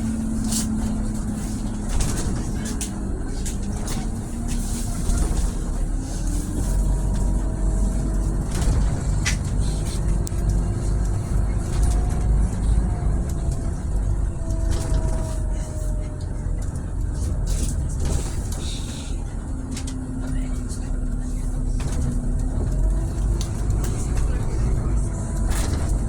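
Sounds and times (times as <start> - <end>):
bus engine and road rumble: 0.0 - 26.0.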